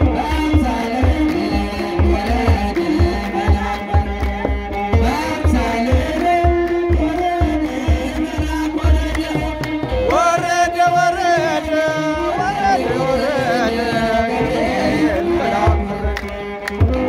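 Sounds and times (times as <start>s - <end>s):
drums beaten in steady rhythm: 0.0s - 17.0s
group of voices singing a hymn: 0.0s - 17.0s.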